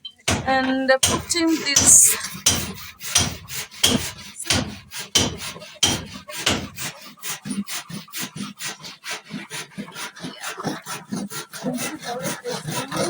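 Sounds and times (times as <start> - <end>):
handsaw cutting timber: 0.3 - 13.0.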